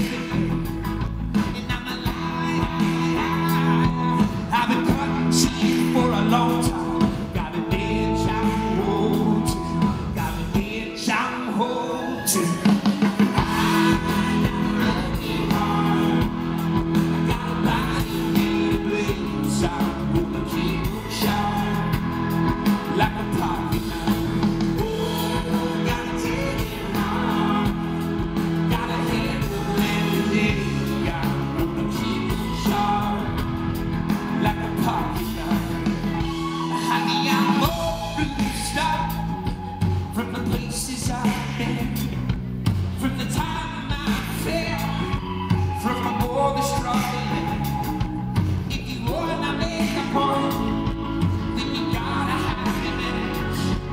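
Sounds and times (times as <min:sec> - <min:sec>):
live rock band playing: 0:00.0 - 0:53.9
man singing lead vocal: 0:00.0 - 0:53.9.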